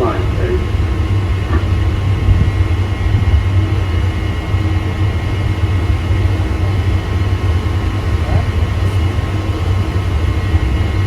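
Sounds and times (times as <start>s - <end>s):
ship engine rumble: 0.0s - 11.0s
ventilation machinery hum: 0.0s - 11.0s.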